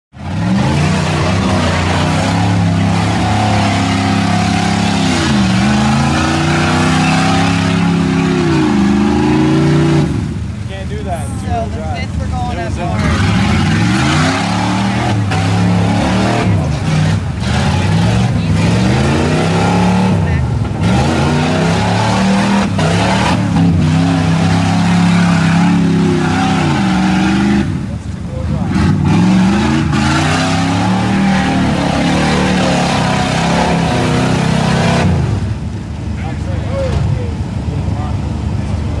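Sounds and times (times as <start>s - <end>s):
truck engine revving: 0.1s - 39.0s.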